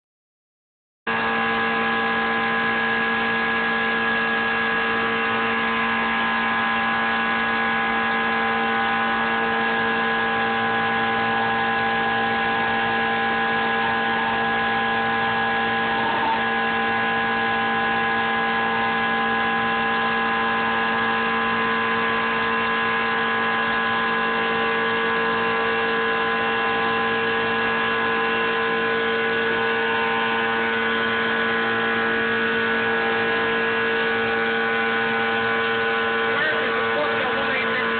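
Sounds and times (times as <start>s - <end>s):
router motor whine: 1.1s - 37.9s.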